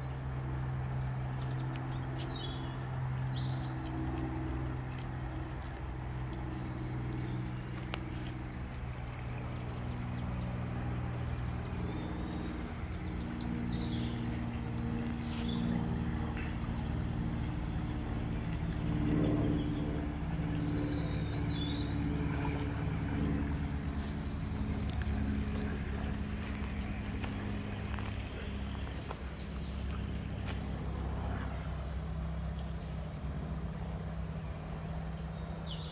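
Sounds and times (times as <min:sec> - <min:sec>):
small birds chirping: 0:00.0 - 0:10.6, 0:11.3 - 0:35.9
low engine drone: 0:00.0 - 0:35.9.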